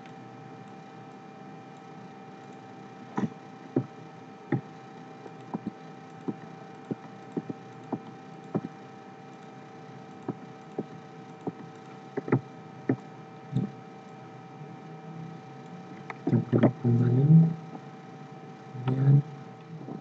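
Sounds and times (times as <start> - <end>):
electrical hum: 0.0 - 20.0
faint constant tone: 0.0 - 20.0.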